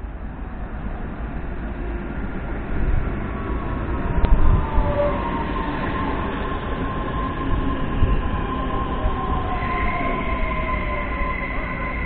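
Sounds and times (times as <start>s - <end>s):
wheels rumbling on rails: 0.0s - 12.0s.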